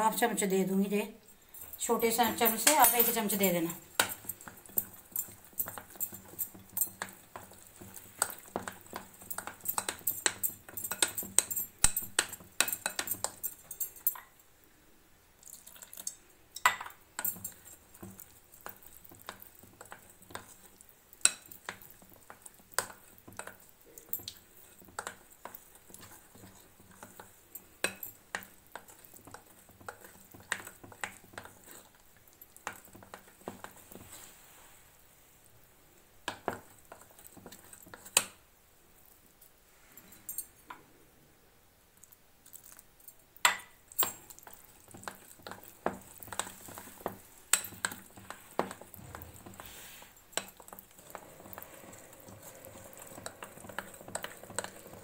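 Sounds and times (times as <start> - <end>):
utensil stirring batter in glass bowl: 1.7 - 13.8, 15.4 - 34.8, 36.2 - 38.4, 42.0 - 55.0.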